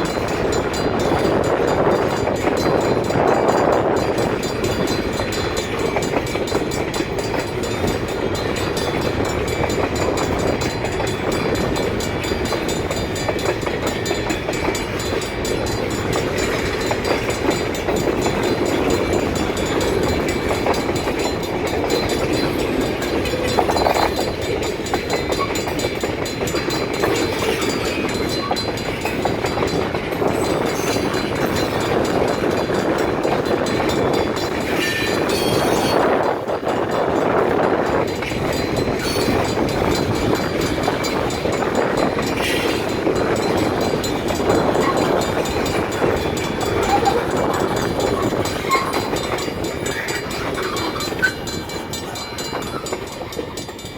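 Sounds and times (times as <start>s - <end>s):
fine clicking of wheels: 0.0s - 53.9s
freight train wheels rumbling: 0.0s - 53.9s.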